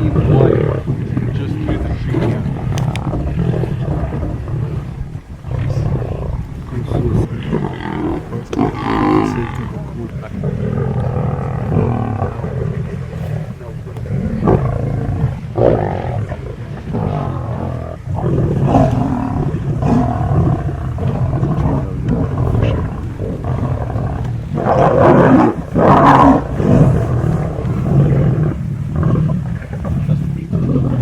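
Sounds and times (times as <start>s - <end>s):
lions calling while feeding: 0.0s - 31.0s.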